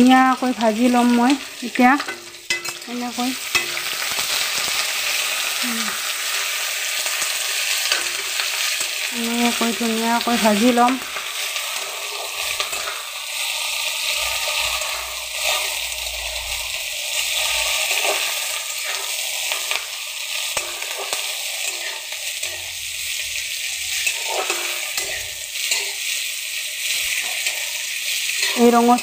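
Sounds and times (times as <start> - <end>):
vegetables sizzling in hot oil: 0.0 - 29.0
spatula scraping a wok: 0.4 - 29.0.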